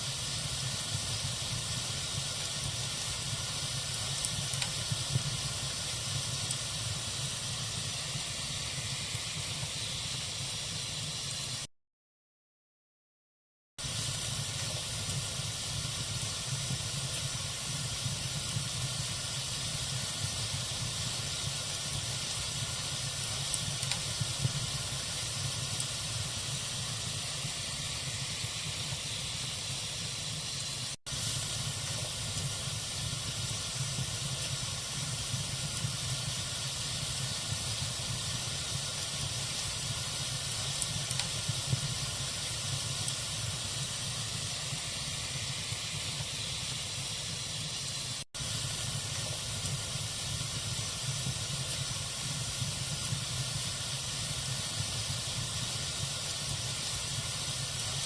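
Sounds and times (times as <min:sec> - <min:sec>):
fire hissing and rumbling: 0:00.0 - 0:11.7, 0:13.8 - 0:58.0.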